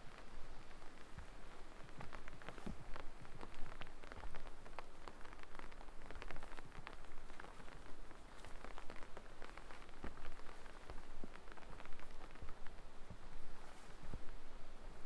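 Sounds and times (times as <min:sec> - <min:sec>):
light rain in forest: 0:00.0 - 0:15.0.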